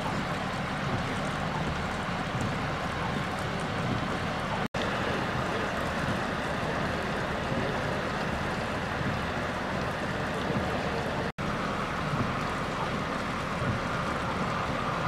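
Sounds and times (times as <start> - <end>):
steady outdoor rushing noise: 0.0 - 15.0.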